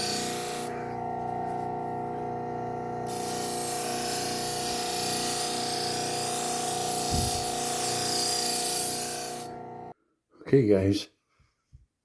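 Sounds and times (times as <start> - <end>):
sharpener motor hum: 0.0 - 9.9.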